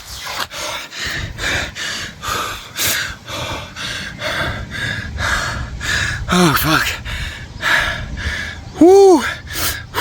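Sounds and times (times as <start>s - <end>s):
heavy fast breathing and gasping: 0.1s - 10.0s.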